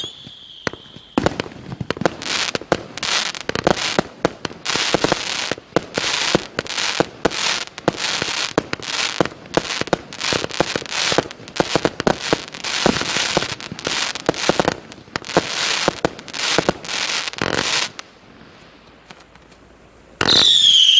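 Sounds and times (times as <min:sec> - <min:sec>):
firework cake firing: 0:00.0 - 0:18.0
firework crackle: 0:00.0 - 0:20.9.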